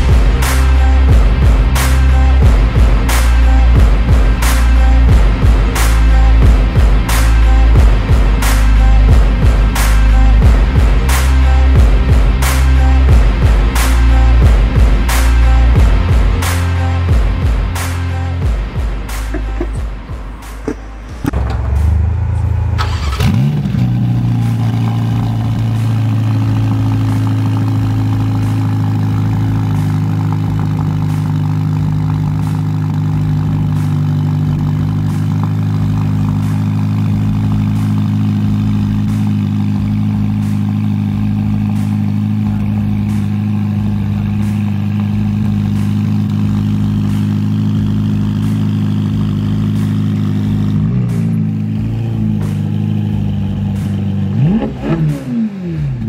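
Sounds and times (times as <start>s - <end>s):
car engine starting and idling: 0.0s - 56.0s.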